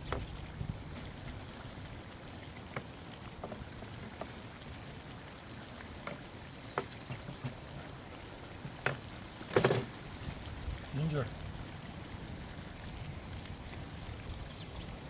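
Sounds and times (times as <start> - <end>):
oil popping and spitting: 0.0 - 15.0.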